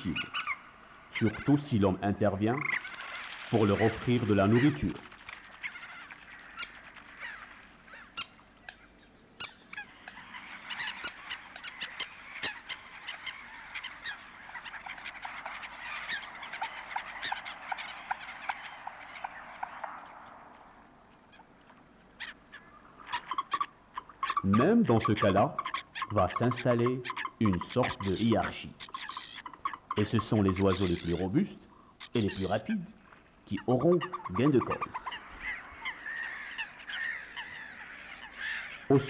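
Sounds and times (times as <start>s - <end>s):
waterbirds calling: 0.0s - 39.0s.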